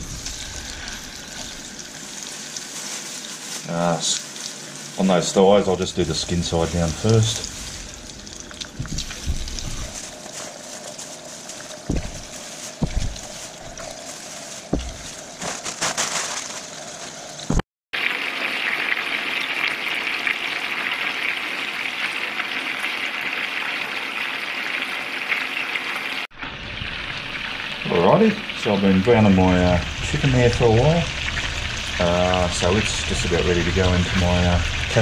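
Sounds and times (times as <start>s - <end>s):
chicken sizzling in oil: 0.0s - 15.4s, 16.5s - 35.0s.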